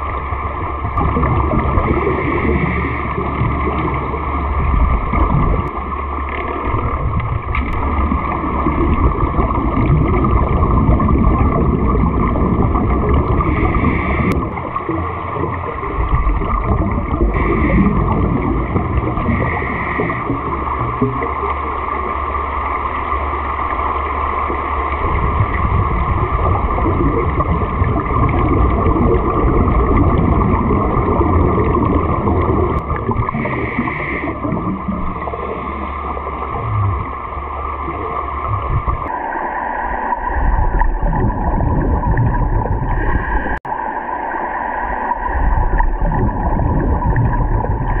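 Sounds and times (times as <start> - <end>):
regulator gurgling and bubbles: 0.0 - 48.0
underwater rushing hiss: 0.0 - 48.0.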